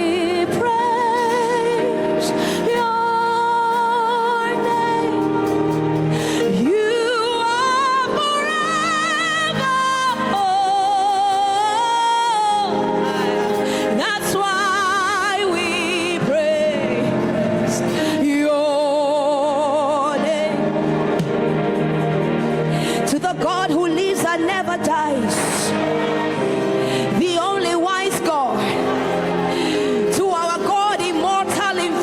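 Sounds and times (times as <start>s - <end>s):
woman singing gospel: 0.0s - 20.9s, 22.9s - 32.0s
musical accompaniment: 0.0s - 32.0s.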